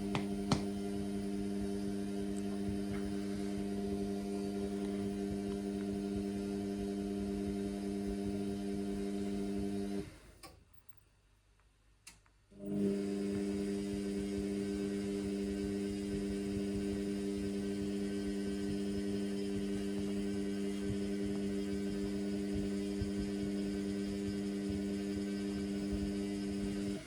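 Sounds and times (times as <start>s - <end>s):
washing machine motor humming: 0.0s - 10.3s, 12.6s - 27.0s.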